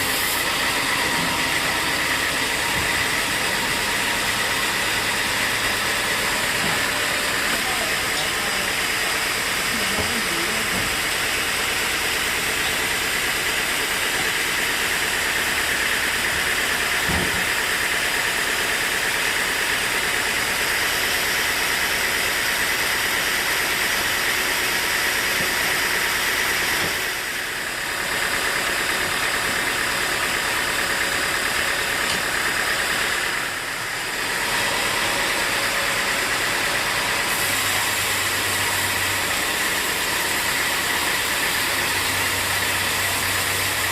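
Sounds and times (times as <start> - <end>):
sawmill machinery running: 0.0 - 43.9.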